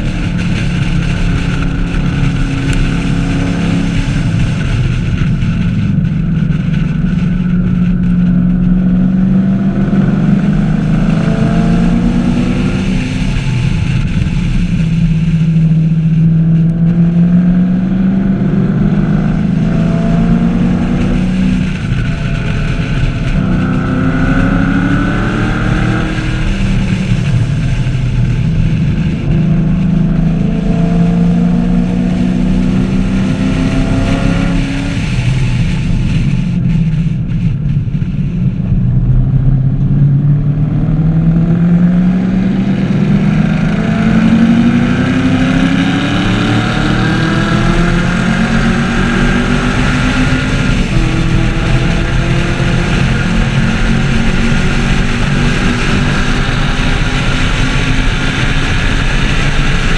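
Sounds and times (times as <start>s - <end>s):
car engine revving through gears: 0.0s - 59.9s
wind and road noise: 0.0s - 59.9s.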